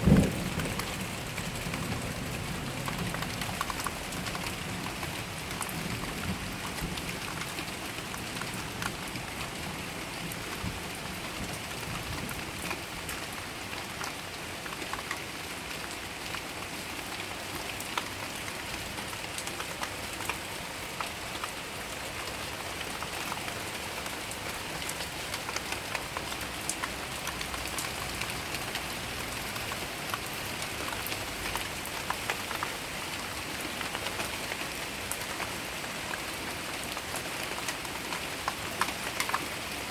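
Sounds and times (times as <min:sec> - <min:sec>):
heavy rain falling: 0:00.0 - 0:39.9
raindrops ticking close by: 0:00.0 - 0:39.9.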